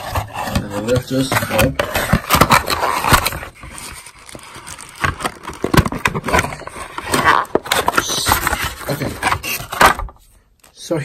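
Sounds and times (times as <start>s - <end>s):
cardboard packaging rustling: 0.0s - 10.3s.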